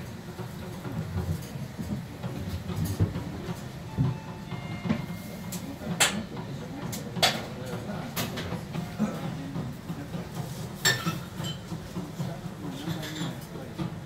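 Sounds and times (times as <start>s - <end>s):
murmur of diners: 0.0s - 14.0s.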